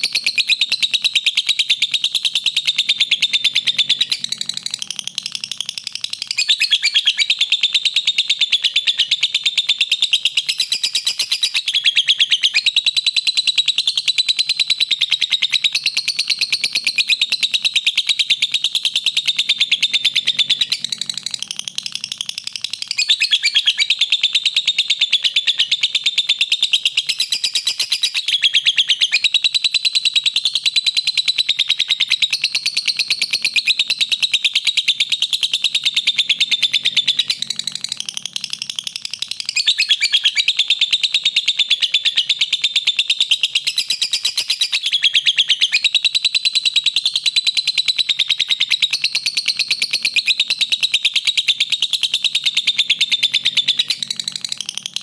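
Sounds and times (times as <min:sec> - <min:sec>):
lovebird chattering: 0:00.0 - 0:55.0.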